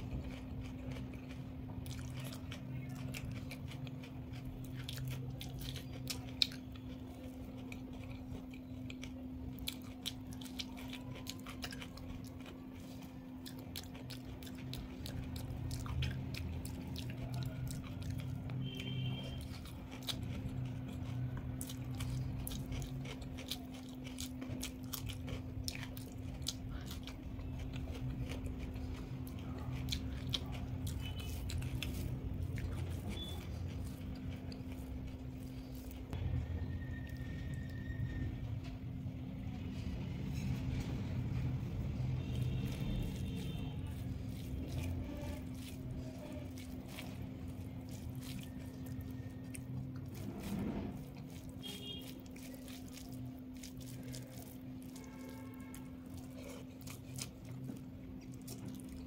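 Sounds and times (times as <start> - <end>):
wet chewing and mouth clicks: 0.0 - 38.2, 40.4 - 59.0
steady low hum: 0.0 - 59.0.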